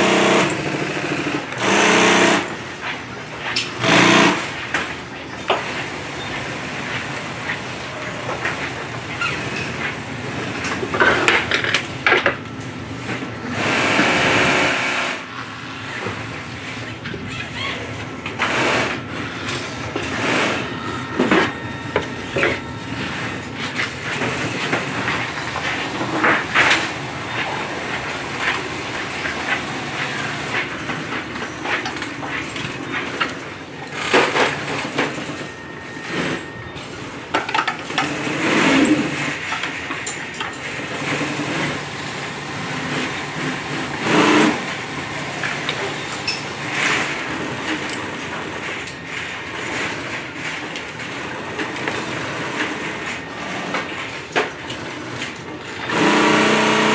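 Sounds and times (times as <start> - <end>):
industrial sewing machine: 0.0 - 17.0, 17.8 - 56.9.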